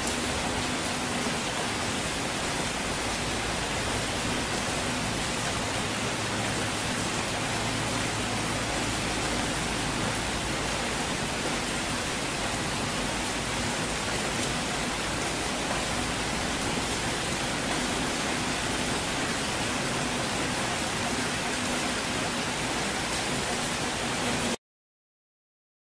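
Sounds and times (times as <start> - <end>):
steady rain: 0.0 - 24.6.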